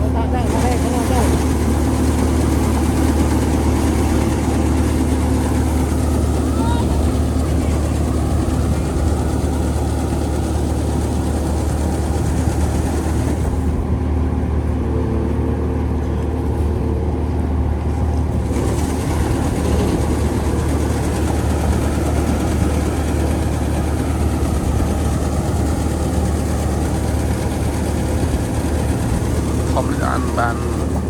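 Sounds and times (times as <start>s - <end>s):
heavy engine running steadily: 0.0s - 31.0s.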